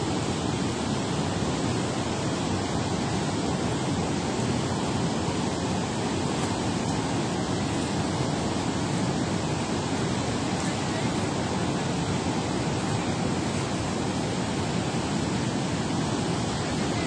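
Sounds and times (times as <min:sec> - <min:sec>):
water rushing through spillway: 0:00.0 - 0:17.0.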